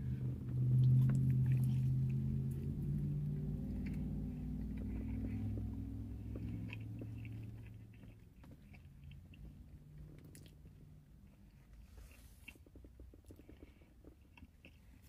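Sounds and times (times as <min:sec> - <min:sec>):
low steady hum: 0:00.0 - 0:15.0
person chewing: 0:00.6 - 0:15.0.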